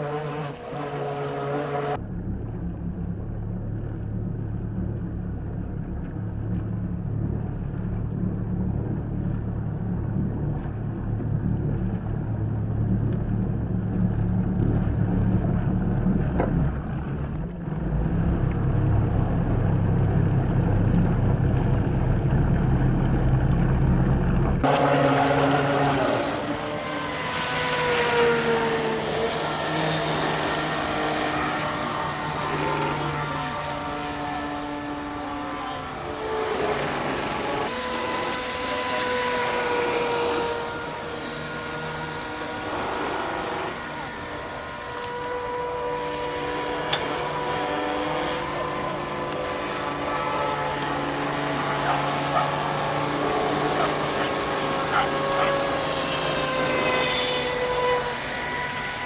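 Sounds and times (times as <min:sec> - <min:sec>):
model boat motor whine: 0:00.0 - 0:59.0
low rumble: 0:01.9 - 0:54.6.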